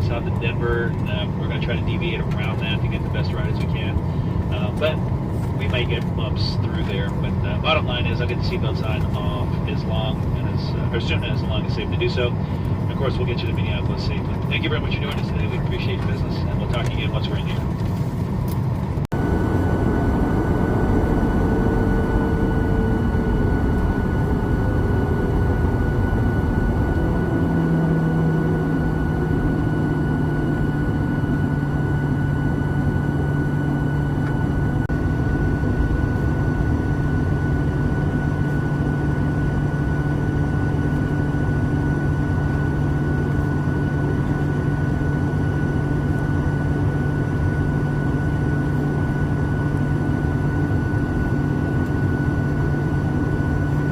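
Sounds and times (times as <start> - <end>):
airplane cabin engine drone: 0.0 - 53.9
low steady hum: 0.0 - 53.9.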